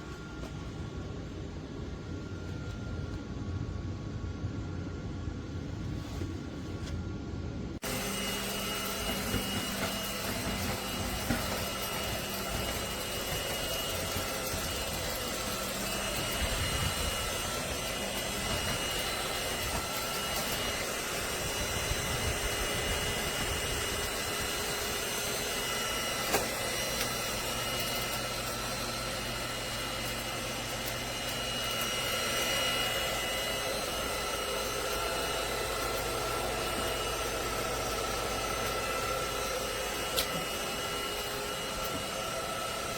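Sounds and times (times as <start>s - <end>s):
vacuum cleaner whine: 0.0s - 42.9s.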